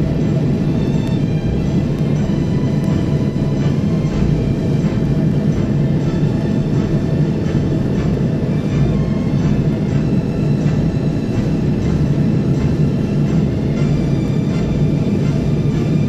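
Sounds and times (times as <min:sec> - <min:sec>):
dark droning background music: 0:00.0 - 0:16.0.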